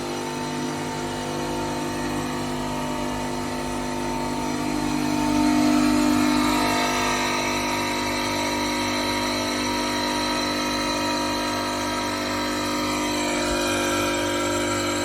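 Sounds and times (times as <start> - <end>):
stone-cutting machine hum: 0.0 - 15.0.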